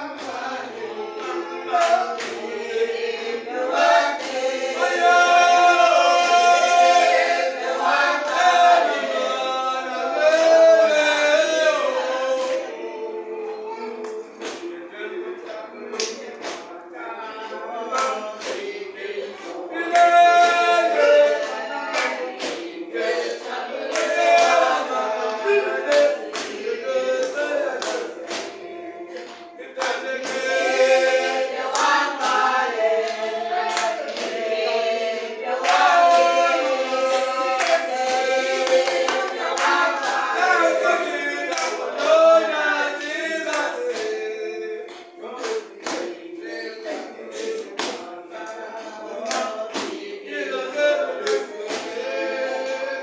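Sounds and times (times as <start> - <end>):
hand claps: 0.0 - 9.2, 11.4 - 12.8, 13.8 - 53.0
congregation singing a hymn: 0.0 - 53.0.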